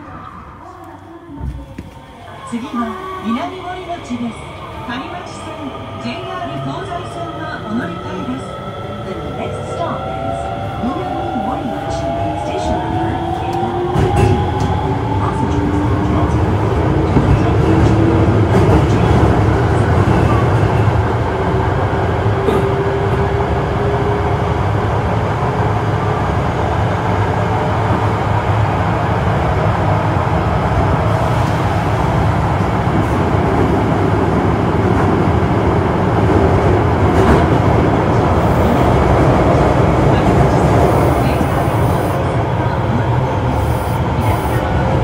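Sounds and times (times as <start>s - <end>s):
train wheels rumbling on rail: 3.4s - 45.0s.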